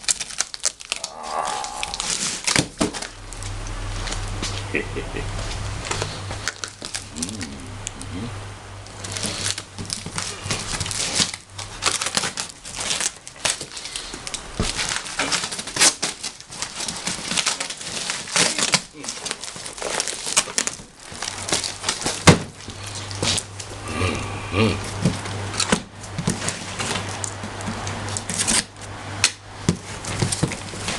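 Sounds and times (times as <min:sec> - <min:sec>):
plastic packaging crinkling: 0:00.0 - 0:08.2, 0:08.8 - 0:23.8, 0:24.8 - 0:30.9.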